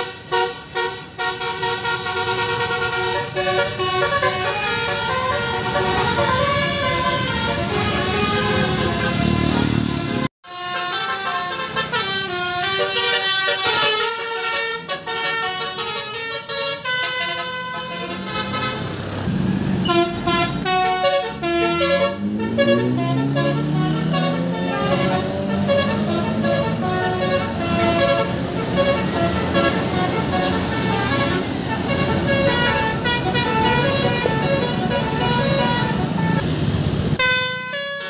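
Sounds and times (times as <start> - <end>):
musical bus horn melody: 0.0 - 36.4, 37.2 - 38.0
bus engine revving: 0.0 - 37.6.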